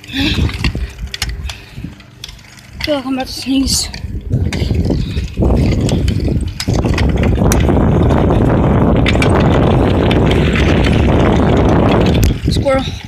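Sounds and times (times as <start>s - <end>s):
bicycle clicks and rattles: 0.0s - 13.0s
wind rushing over microphone: 0.0s - 13.0s.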